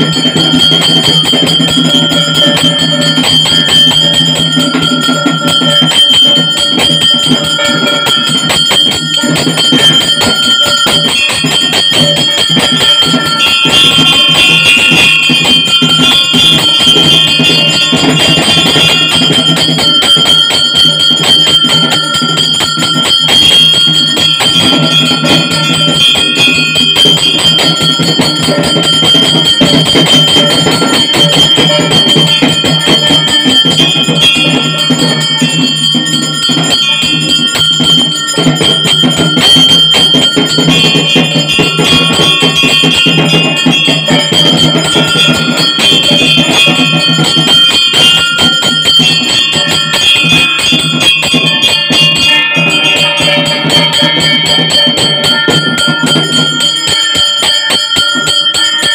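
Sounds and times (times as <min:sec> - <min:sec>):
hand bell ringing rapidly: 0:00.0 - 0:58.9
ritual music: 0:00.0 - 0:58.9.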